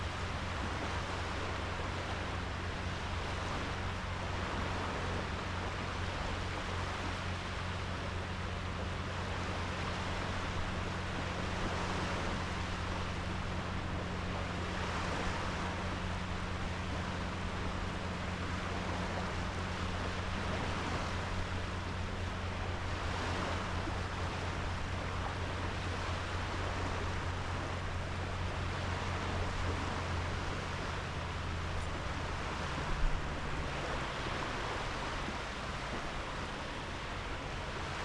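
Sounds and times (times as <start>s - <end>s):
low hum: 0.0s - 38.0s
waves washing onto beach: 0.0s - 38.0s.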